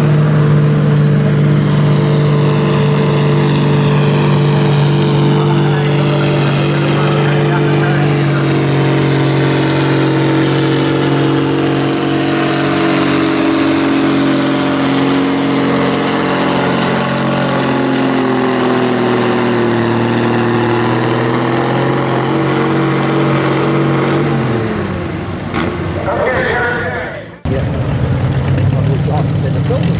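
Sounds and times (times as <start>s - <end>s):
tractor engine at full throttle: 0.0s - 29.9s.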